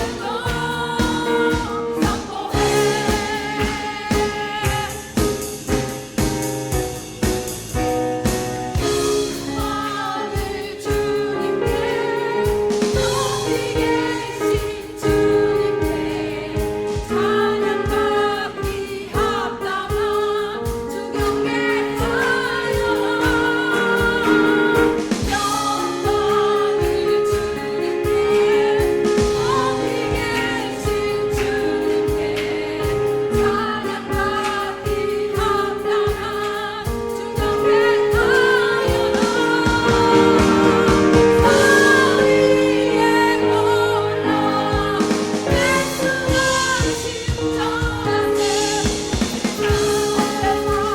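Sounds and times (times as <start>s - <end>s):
vocal ensemble singing carol: 0.0s - 6.3s, 8.8s - 50.9s
instrumental accompaniment with beat: 0.0s - 50.9s.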